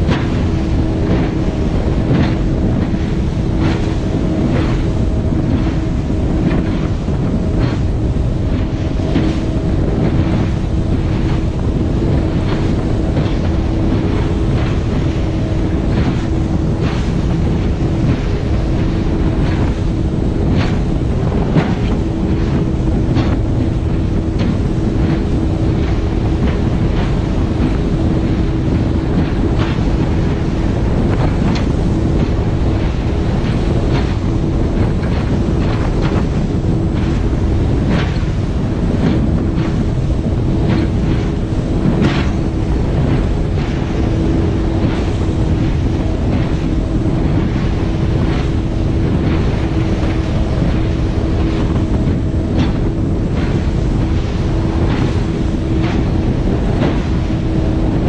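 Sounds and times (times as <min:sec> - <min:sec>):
hull slapping waves: 0:00.0 - 0:58.0
speedboat engine: 0:00.0 - 0:58.0
wind buffeting microphone: 0:00.0 - 0:58.0.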